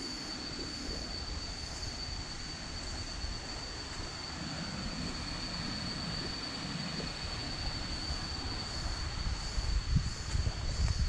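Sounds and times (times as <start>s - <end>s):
high-pitched insect drone: 0.0s - 11.0s
low rumbling noise: 0.3s - 11.0s.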